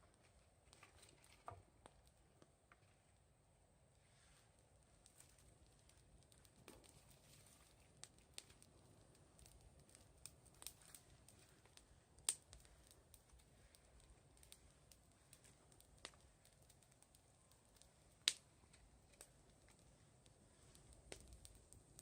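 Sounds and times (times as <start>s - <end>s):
bonfire crackling and popping: 0.0s - 2.8s, 3.8s - 22.0s.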